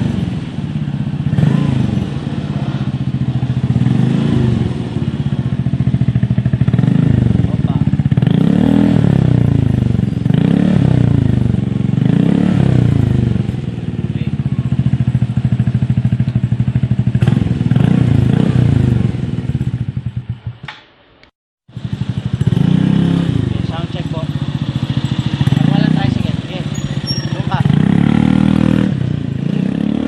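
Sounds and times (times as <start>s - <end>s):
scooter engine revving: 0.0s - 20.6s, 21.7s - 30.0s.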